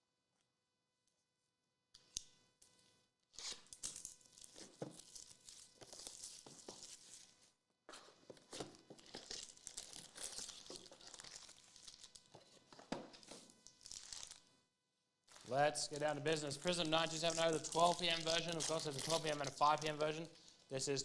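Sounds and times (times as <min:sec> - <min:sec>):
plastic wrapping crinkling: 0:03.4 - 0:14.5, 0:15.3 - 0:21.0.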